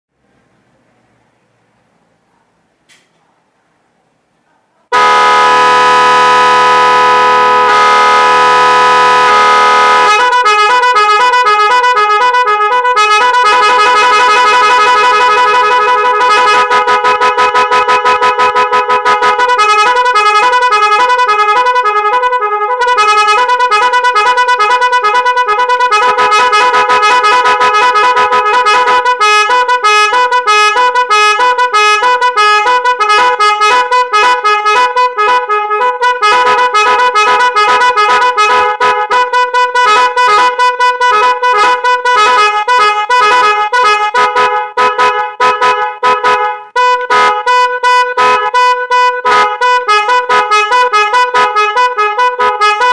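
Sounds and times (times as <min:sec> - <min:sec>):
musical vehicle horn notes: 0:04.9 - 0:52.9.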